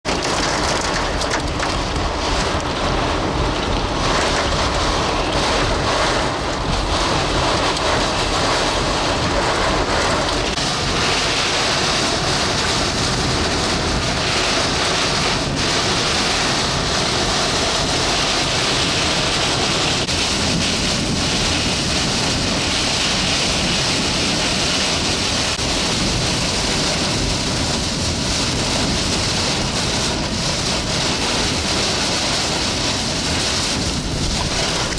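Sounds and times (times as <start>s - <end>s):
heavy rain beating on a car: 0.0s - 34.9s
strong wind: 0.0s - 34.9s.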